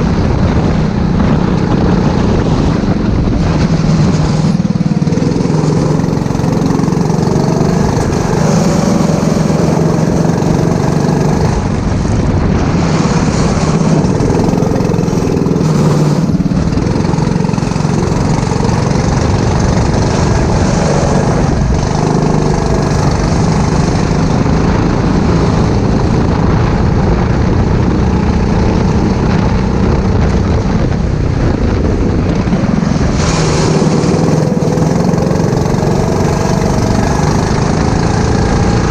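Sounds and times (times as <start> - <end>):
go-kart engine running hard: 0.0 - 38.9.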